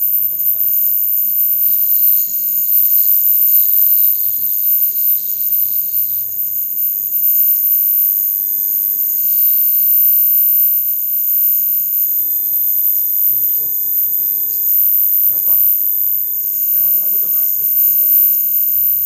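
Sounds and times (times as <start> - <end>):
high-pitched ultrasonic whine: 0.0 - 19.0.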